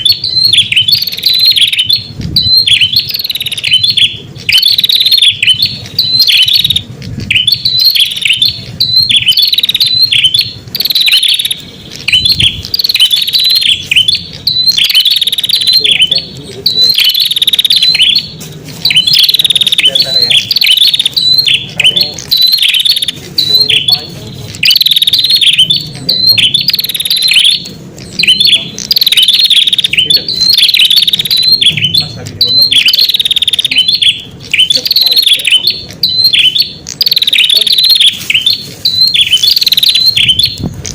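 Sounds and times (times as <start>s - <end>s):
bird chirping calls: 0.0s - 40.9s.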